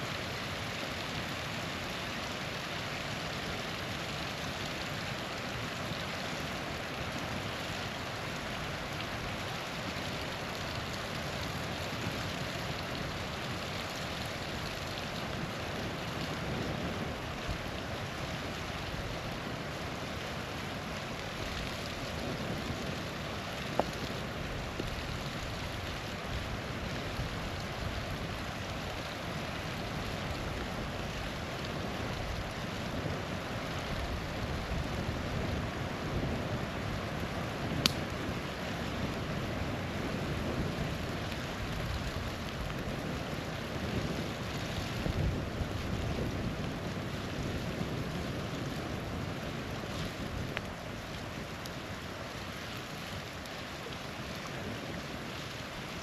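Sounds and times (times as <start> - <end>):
campfire crackling: 0.0 - 56.0
small waterfall rushing: 0.0 - 56.0.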